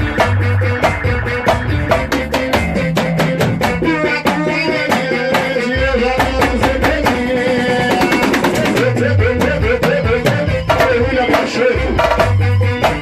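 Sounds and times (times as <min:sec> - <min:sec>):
bass guitar: 0:00.0 - 0:13.0
drums and percussion: 0:00.0 - 0:13.0
guitar: 0:00.0 - 0:13.0.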